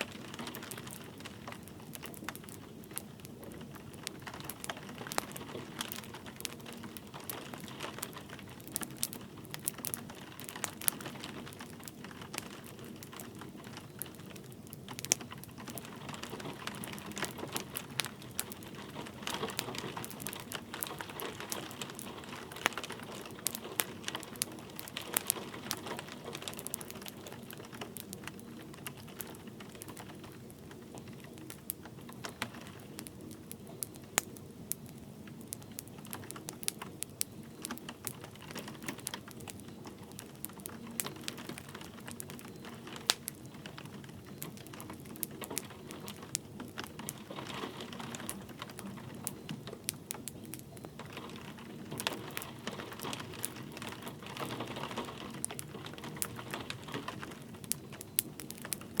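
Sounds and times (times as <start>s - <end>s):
light rain hiss: 0.0s - 59.0s
wood fire crackling and popping: 0.0s - 59.0s.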